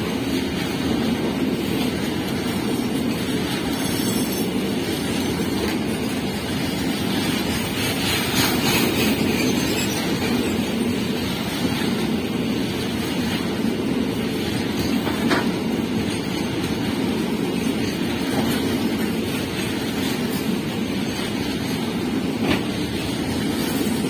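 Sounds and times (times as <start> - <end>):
train wheels rumbling over rails: 0.0 - 24.0.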